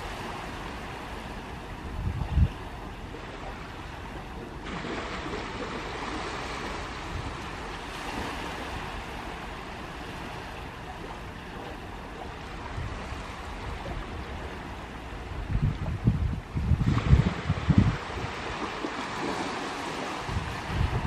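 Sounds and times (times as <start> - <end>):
sea waves washing on beach: 0.0 - 21.0.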